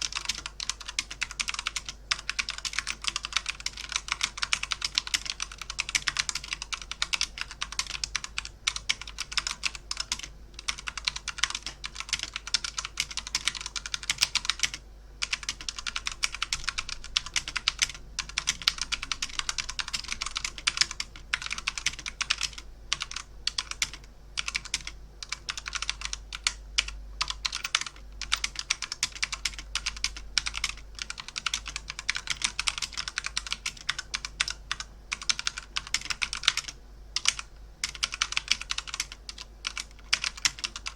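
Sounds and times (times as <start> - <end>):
computer keyboard typing: 0.0 - 40.9.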